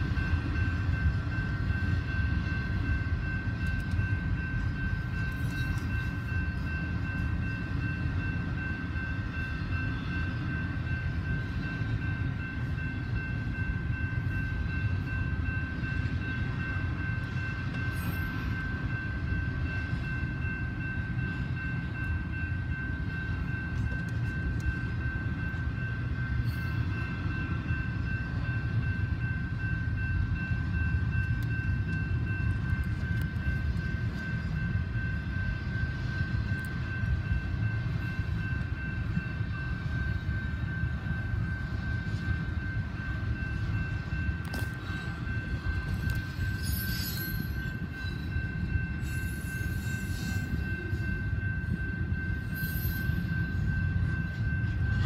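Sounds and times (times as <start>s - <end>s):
freight train rumbling past: 0.0s - 55.0s
high-pitched whine: 0.0s - 55.0s.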